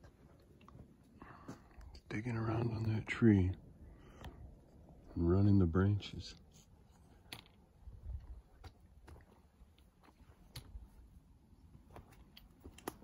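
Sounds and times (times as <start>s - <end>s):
faint footsteps on trail: 0.0s - 13.0s.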